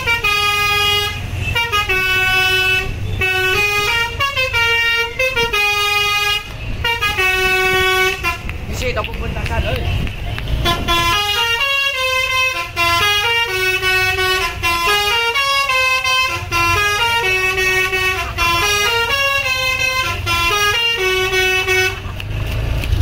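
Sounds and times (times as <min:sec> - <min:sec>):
musical air horn melody: 0:00.0 - 0:08.5, 0:10.6 - 0:22.0
bus engine rumble: 0:00.0 - 0:23.0.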